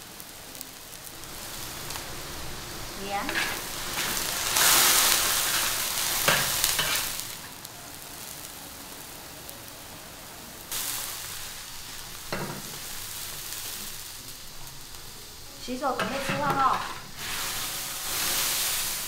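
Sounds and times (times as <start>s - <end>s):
greens sizzling in a wok: 0.0s - 19.0s.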